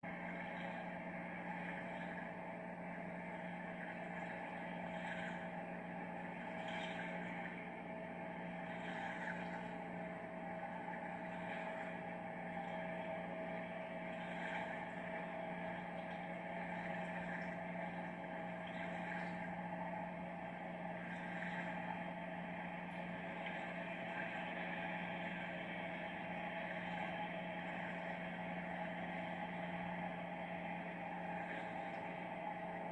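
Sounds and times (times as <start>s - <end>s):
boat engine droning: 0.0s - 32.9s.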